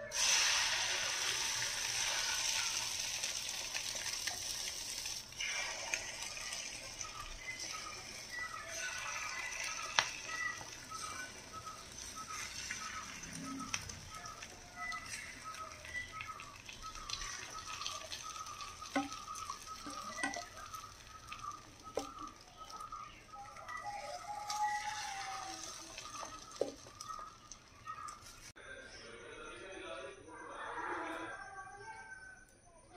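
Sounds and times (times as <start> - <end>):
batter sizzling in a pan: 0.0 - 28.5.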